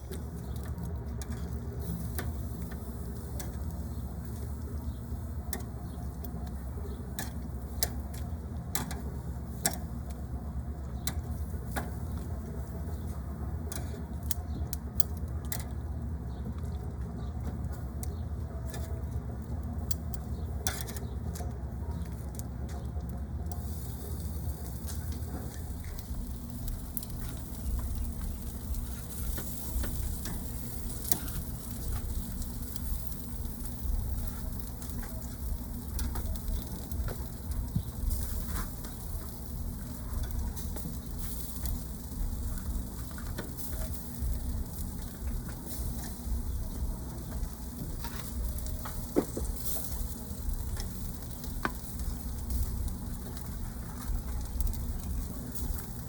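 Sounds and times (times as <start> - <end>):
chicken sizzling on a grill: 0.0 - 56.0
crackles and pops: 0.0 - 56.0.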